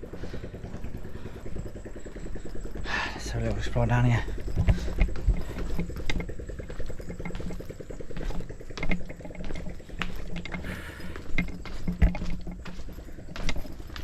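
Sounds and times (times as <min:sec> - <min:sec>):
small motorbike engine running: 0:00.0 - 0:14.0.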